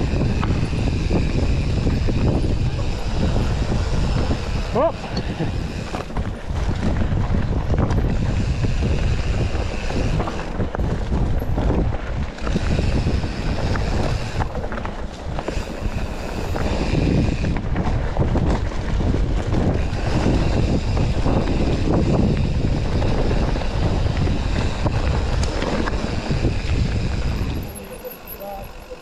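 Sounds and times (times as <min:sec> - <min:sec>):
bike knocking and rattling: 0:00.0 - 0:29.0
bike tyres rumbling on dirt: 0:00.0 - 0:29.0
wind buffeting microphone: 0:00.0 - 0:29.0.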